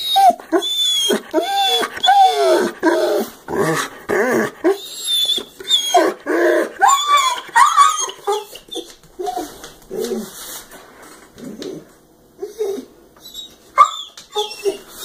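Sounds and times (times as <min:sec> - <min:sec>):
dog grumbling and whining: 0:00.0 - 0:10.4, 0:11.3 - 0:15.0.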